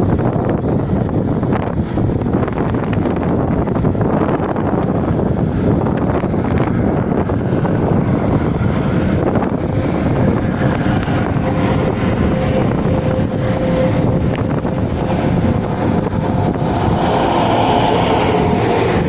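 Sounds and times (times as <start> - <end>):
train rushing past: 0.0 - 19.0
wind buffeting microphone: 0.0 - 19.0.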